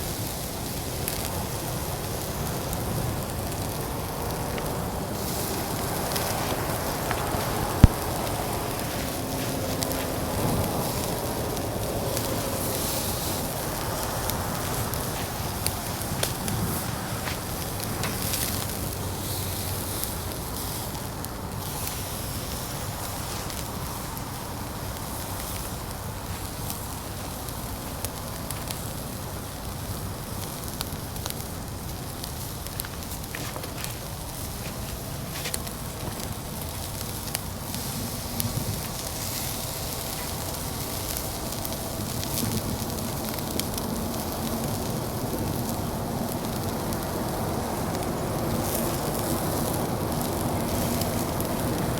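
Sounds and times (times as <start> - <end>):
fire crackling and popping: 0.0 - 51.9
fire hissing: 0.0 - 51.9.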